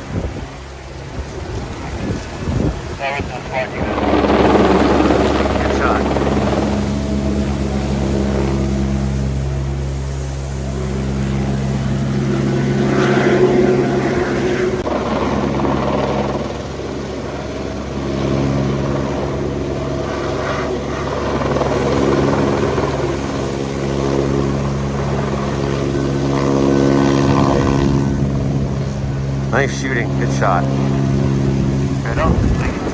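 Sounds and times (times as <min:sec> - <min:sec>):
helicopter flying: 0:00.0 - 0:32.9.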